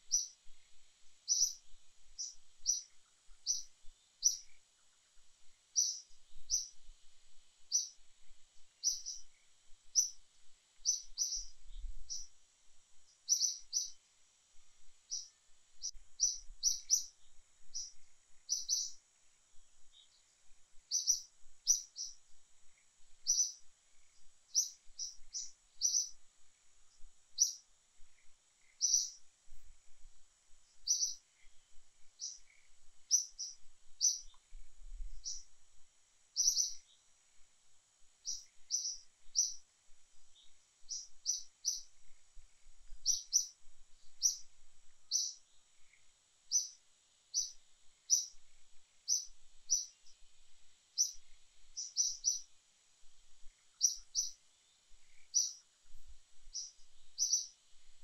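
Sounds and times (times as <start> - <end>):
bird chirping: 0.0 - 6.9, 7.6 - 8.0, 8.6 - 10.2, 10.8 - 12.4, 13.0 - 14.0, 14.8 - 19.0, 19.8 - 26.2, 26.9 - 29.7, 30.7 - 35.5, 36.4 - 37.1, 38.2 - 50.3, 50.9 - 52.6, 53.4 - 57.6.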